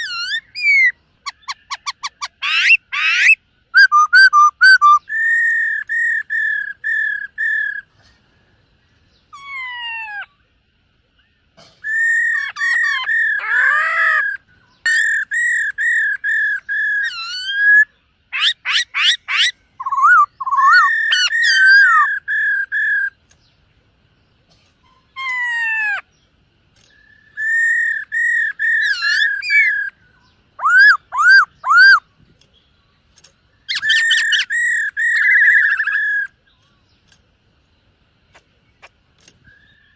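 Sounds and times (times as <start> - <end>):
bird singing whistled notes: 0.0 - 7.9, 11.1 - 23.6, 26.0 - 37.2, 38.3 - 39.9.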